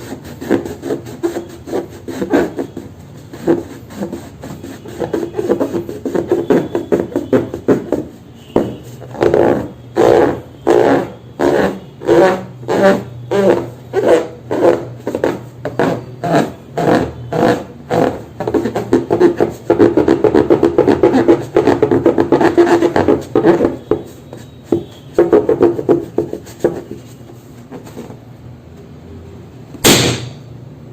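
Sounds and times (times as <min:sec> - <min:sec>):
balloon neck buzzing: 0:00.0 - 0:27.0.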